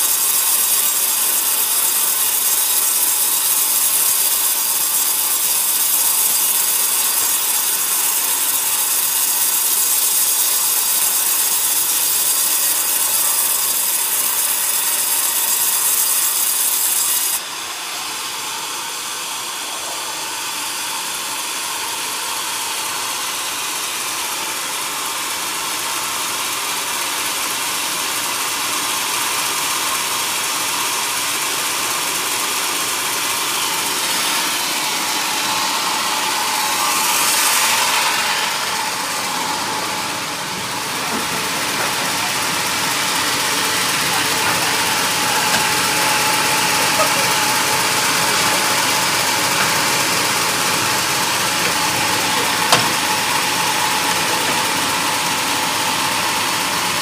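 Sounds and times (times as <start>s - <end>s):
band saw blade sawing log: 0.0s - 57.0s
machine running: 0.0s - 57.0s.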